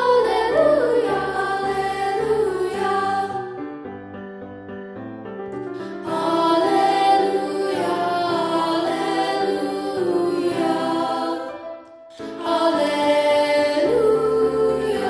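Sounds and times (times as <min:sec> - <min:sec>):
children's choir singing: 0:00.0 - 0:03.7, 0:05.8 - 0:15.0.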